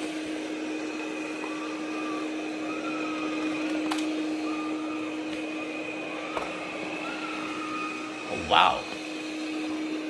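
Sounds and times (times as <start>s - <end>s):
robot vacuum motor humming: 0.0s - 10.0s.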